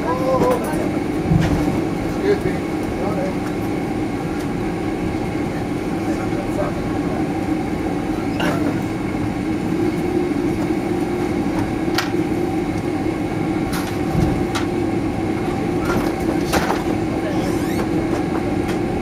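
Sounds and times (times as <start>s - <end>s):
aircraft engines humming and rumbling: 0.0s - 19.0s.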